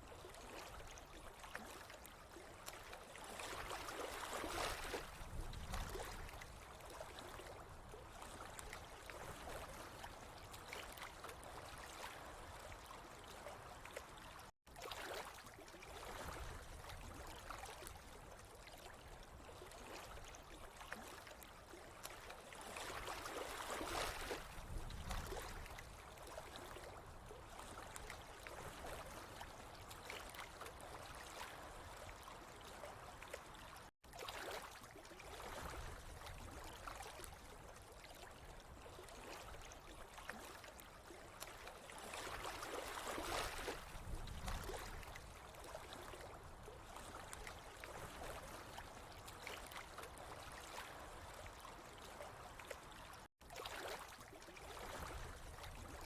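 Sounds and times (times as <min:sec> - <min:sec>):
water trickling and gurgling: 0:00.0 - 0:56.0.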